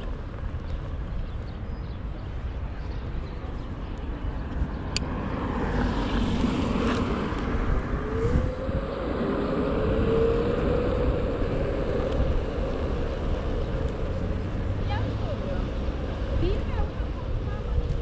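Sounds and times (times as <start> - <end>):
wind and tyre noise on asphalt: 0.0 - 18.0.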